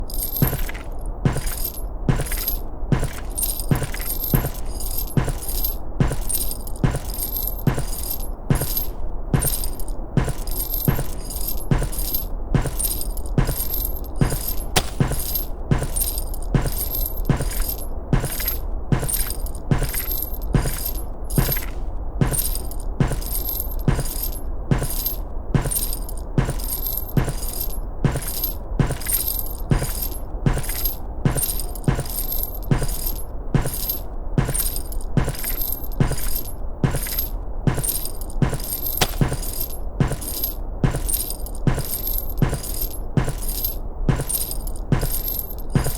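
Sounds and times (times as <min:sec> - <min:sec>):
footsteps with high rattle: 0:00.0 - 0:45.9.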